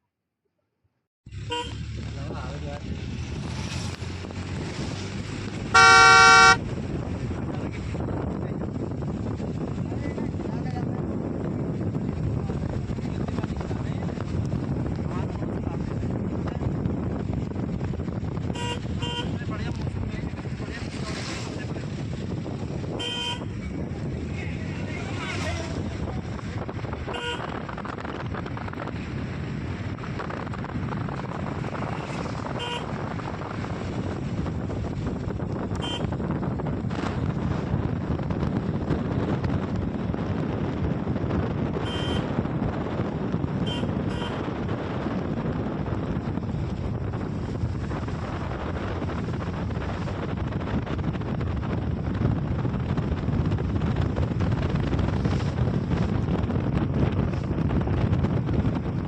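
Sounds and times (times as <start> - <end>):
vehicle running: 1.3 - 59.0
wind on microphone: 1.3 - 59.0.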